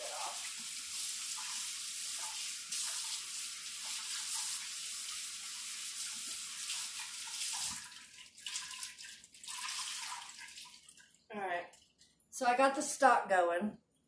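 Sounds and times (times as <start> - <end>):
water splashes: 0.0 - 12.1
faucet running into sink: 0.0 - 12.2.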